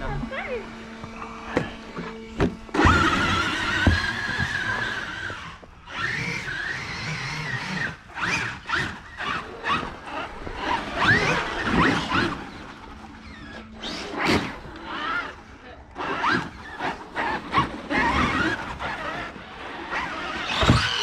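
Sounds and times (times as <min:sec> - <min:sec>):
electric motor whining: 0:00.0 - 0:21.0
tyres churning through snow: 0:00.0 - 0:21.0.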